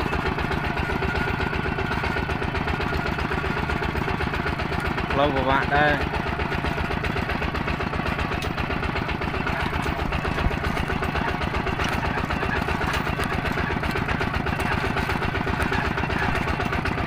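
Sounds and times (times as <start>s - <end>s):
engine chugging steadily: 0.0s - 17.0s.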